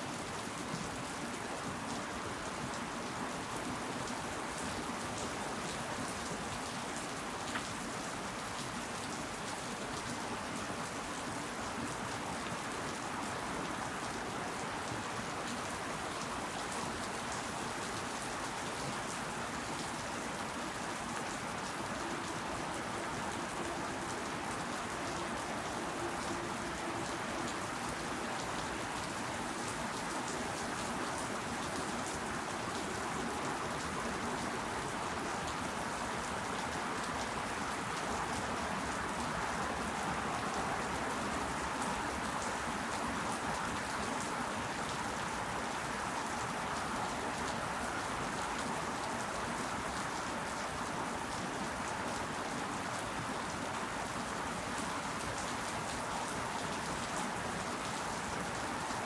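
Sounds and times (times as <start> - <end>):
rain pattering on leaves: 0.1 - 59.0.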